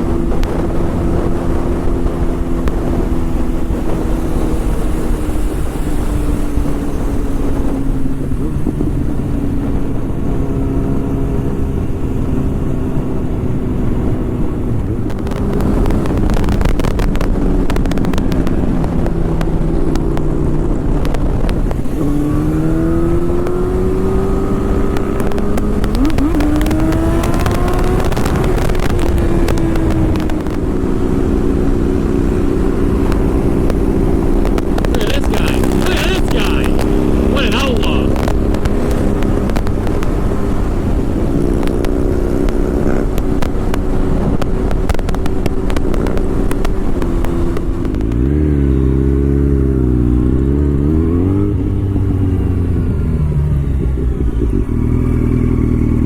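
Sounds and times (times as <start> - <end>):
wind buffeting microphone: 0.0 - 36.0, 38.0 - 56.0
motorcycle engine running: 0.0 - 56.0.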